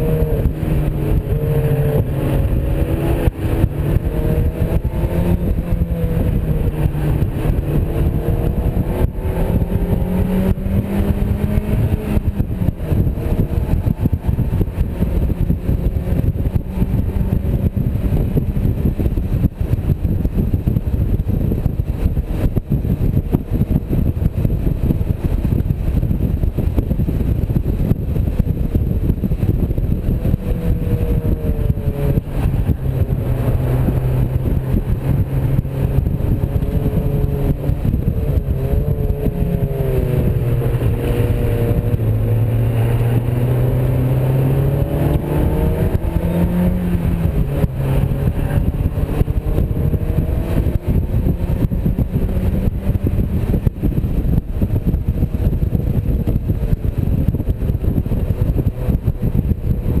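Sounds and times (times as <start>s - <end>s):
sports car engine accelerating: 0.0s - 60.0s
wind and road noise: 0.0s - 60.0s.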